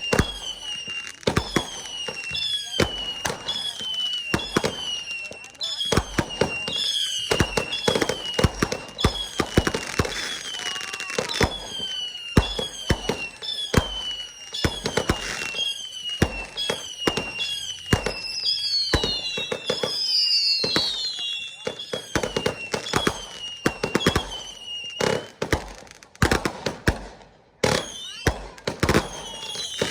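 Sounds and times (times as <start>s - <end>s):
fireworks bangs and crackle: 0.0s - 29.9s
whistling rockets: 0.0s - 29.9s.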